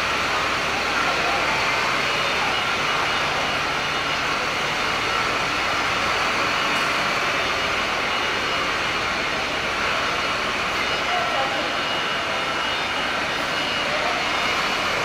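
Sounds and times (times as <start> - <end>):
machinery rushing noise: 0.0 - 15.0.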